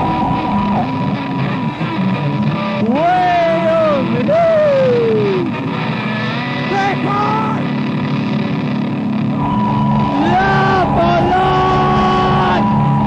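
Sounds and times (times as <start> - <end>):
harsh noise wash: 0.0 - 13.0
sliding pitched tones: 0.0 - 13.0.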